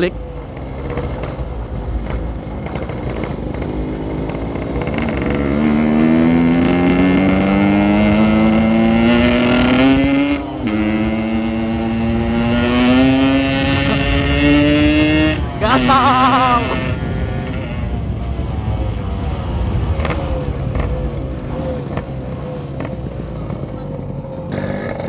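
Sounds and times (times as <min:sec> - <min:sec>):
two-stroke motorcycle engine accelerating: 0:00.0 - 0:25.0.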